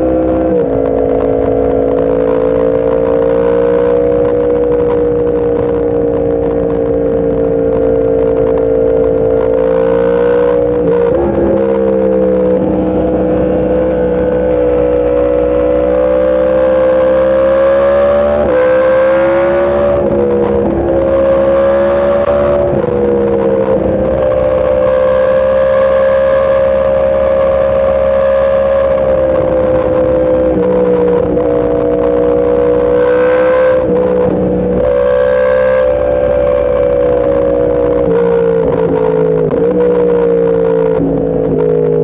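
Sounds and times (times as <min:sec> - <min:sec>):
motorcycle engine at speed: 0:00.0 - 0:42.0
wind noise: 0:00.0 - 0:42.0.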